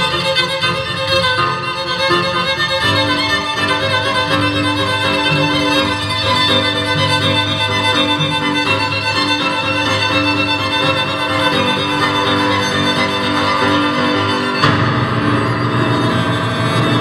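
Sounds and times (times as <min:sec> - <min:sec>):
cello low note: 0:00.0 - 0:17.0
grand piano: 0:00.0 - 0:17.0
violin: 0:00.0 - 0:17.0.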